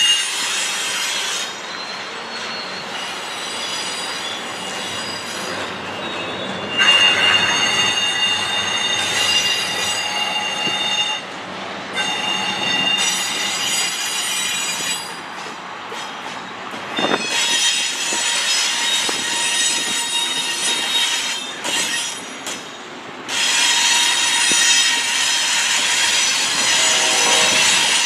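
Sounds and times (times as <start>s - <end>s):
freight train rolling by: 0.0s - 28.0s
steel wheels squealing on rails: 0.0s - 28.0s.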